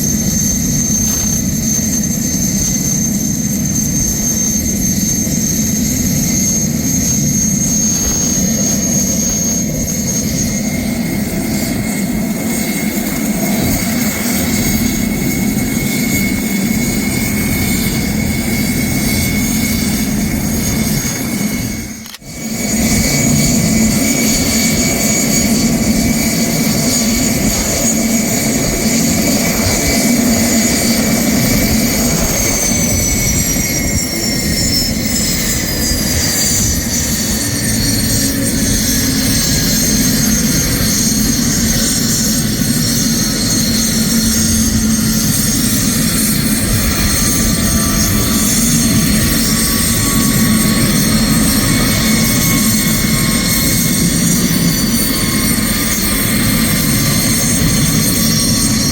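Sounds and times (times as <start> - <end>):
turbine engine whine: 0.0 - 58.9.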